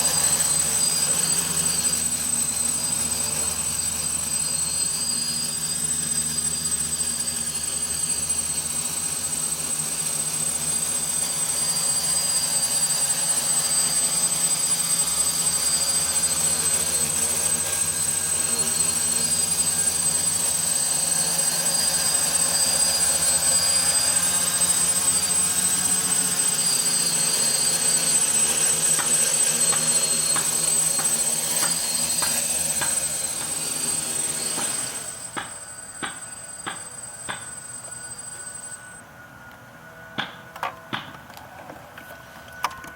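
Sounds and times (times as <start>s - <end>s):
drone propellers buzzing: 0.0s - 40.9s
thin high motor whine: 0.0s - 42.9s.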